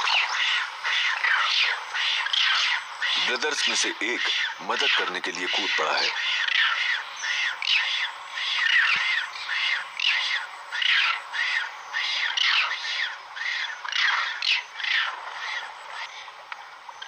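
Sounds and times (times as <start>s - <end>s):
high-pitched squealing calls: 0.0s - 16.3s.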